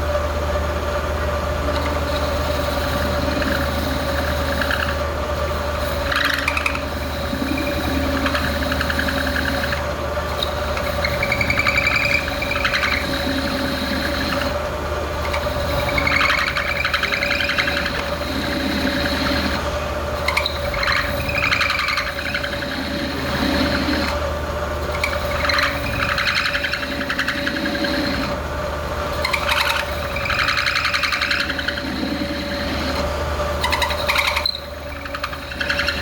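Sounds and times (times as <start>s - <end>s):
lathe motor hum: 0.0s - 36.0s
tool grating on metal: 1.8s - 14.6s, 15.2s - 28.4s, 29.1s - 36.0s.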